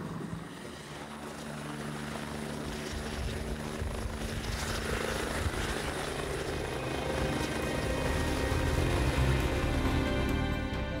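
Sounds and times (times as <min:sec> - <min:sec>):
helicopter turbine hum and rotor: 0:00.0 - 0:11.0.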